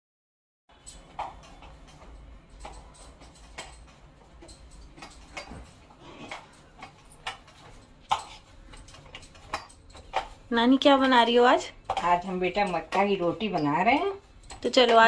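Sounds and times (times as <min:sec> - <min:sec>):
steel kitchenware clicking and knocking: 0:00.7 - 0:15.0.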